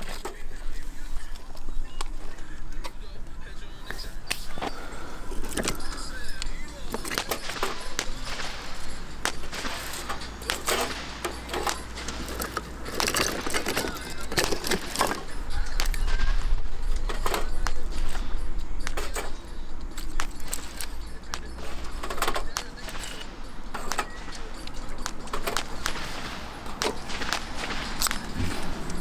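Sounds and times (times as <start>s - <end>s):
rustling: 0.0s - 29.0s
small hard objects clinking: 0.0s - 29.0s.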